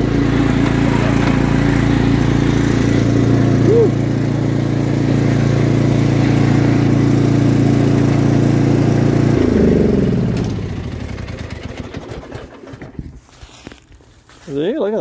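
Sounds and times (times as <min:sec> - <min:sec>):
lawn mower engine running: 0:00.0 - 0:13.8.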